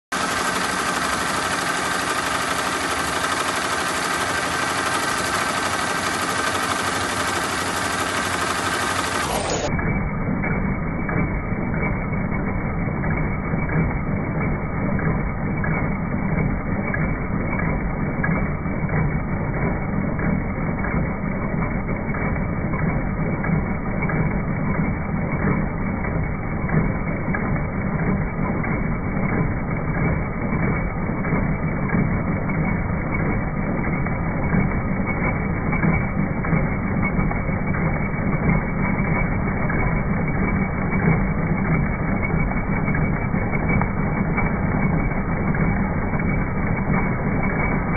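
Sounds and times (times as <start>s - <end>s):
embroidery machine clattering: 0.1s - 9.8s, 10.4s - 47.9s.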